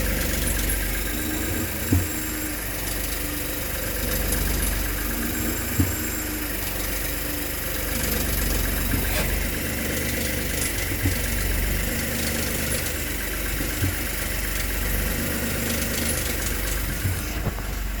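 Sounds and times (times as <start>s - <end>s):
car engine idling: 0.0s - 18.0s
short engine knocks: 0.0s - 18.0s.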